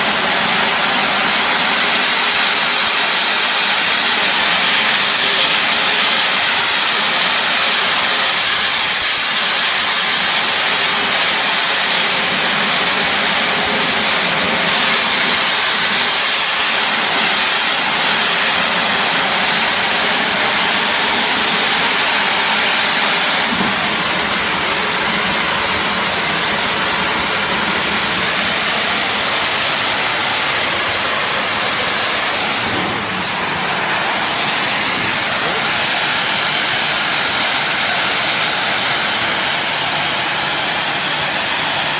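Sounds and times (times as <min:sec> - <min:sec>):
pressure washer water jet hiss: 0:00.0 - 0:41.9.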